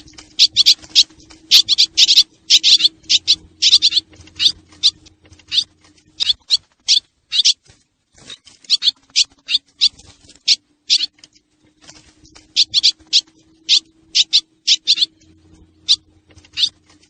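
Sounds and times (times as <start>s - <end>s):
faint steady hum: 0.0s - 17.0s
swallows chirping: 0.0s - 17.0s.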